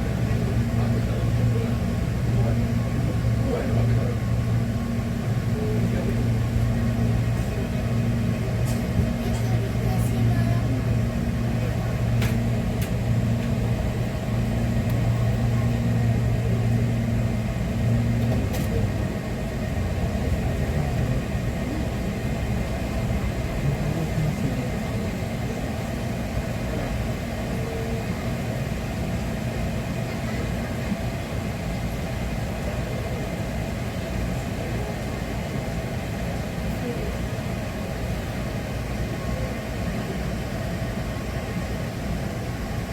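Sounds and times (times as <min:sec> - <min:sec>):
electric train rumbling: 0:00.0 - 0:42.9.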